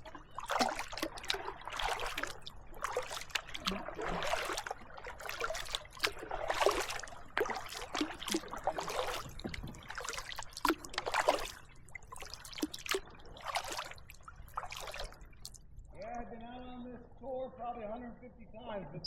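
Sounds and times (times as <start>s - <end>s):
paddle splashing in water: 0.0s - 15.6s
water dripping off paddle: 0.0s - 15.7s.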